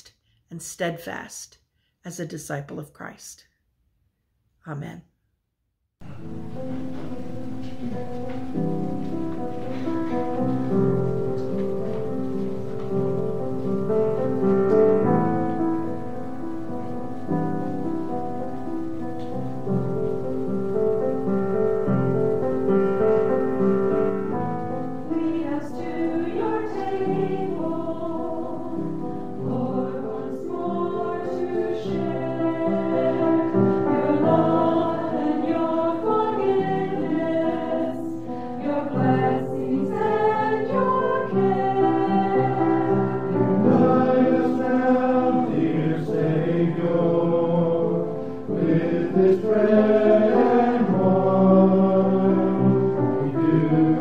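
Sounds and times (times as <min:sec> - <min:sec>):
choir singing a hymn: 0:06.1 - 0:54.0.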